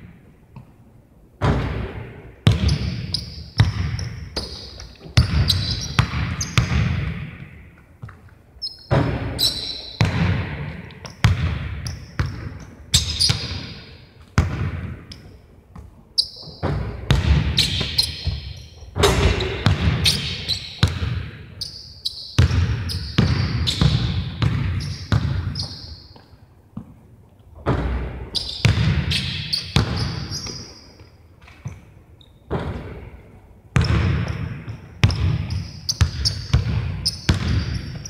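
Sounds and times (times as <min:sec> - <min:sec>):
basketball bouncing on gym floor: 0:01.4 - 0:21.5, 0:22.4 - 0:27.0, 0:27.6 - 0:30.8, 0:32.5 - 0:38.0.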